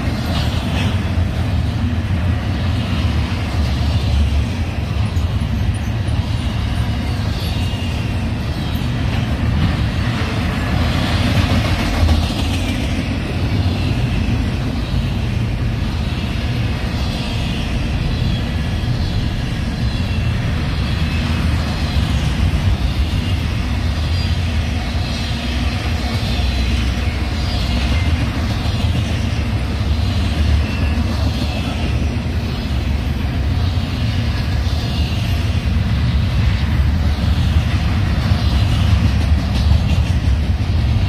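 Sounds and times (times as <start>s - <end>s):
train wheels rumbling and clattering: 0.0s - 41.0s.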